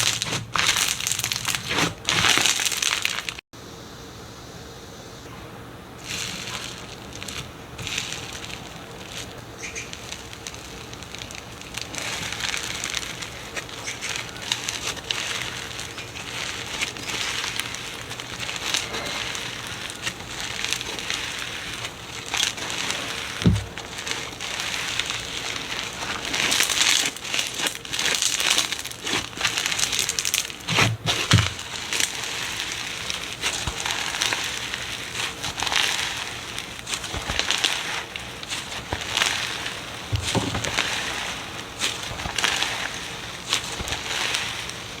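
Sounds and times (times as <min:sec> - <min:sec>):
slime crackling when squeezed: 0:00.0 - 0:03.4, 0:06.0 - 0:45.0.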